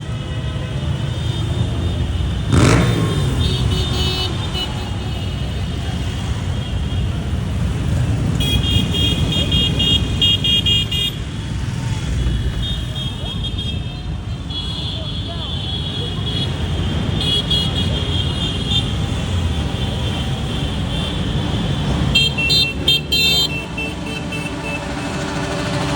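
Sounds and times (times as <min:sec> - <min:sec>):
horns beeping: 0:00.0 - 0:25.9
motorcycle engines running: 0:00.0 - 0:25.9.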